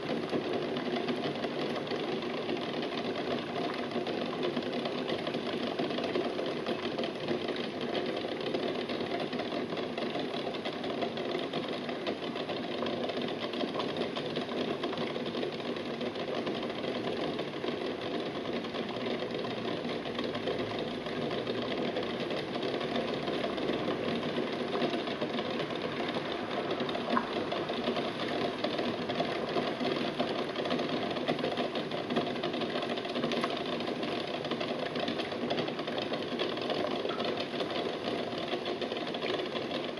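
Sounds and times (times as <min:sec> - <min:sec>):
water bubbling at a boil: 0:00.0 - 0:39.9.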